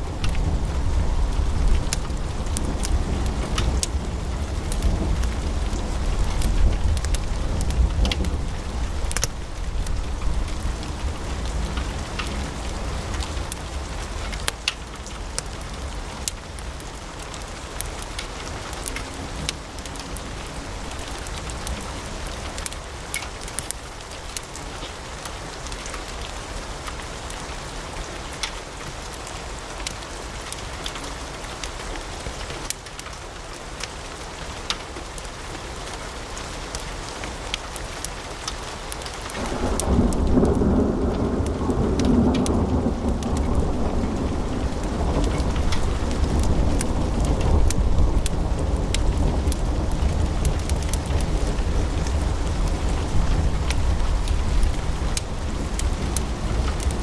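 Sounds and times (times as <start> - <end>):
wood fire crackling: 0.0 - 27.5, 29.8 - 57.0.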